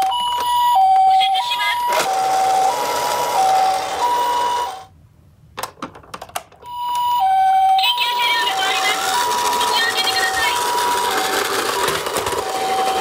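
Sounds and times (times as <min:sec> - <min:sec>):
toy two-tone siren: 0:00.0 - 0:04.9, 0:06.7 - 0:13.0.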